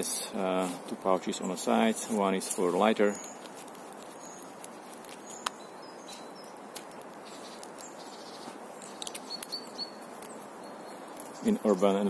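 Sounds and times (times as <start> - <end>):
outdoor background noise: 0.0 - 12.0
faint bird chirps: 1.3 - 12.0.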